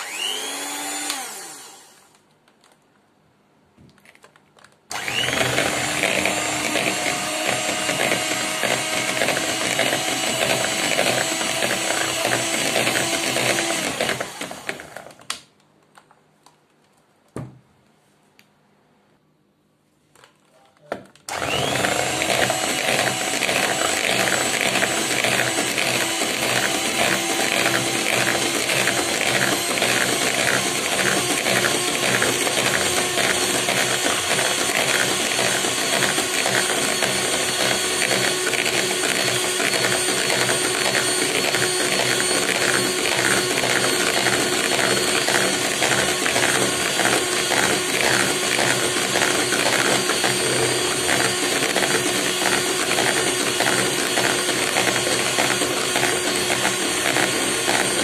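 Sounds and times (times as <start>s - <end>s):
electric hand mixer whirring: 0.0s - 2.2s, 4.9s - 15.2s, 21.3s - 58.0s.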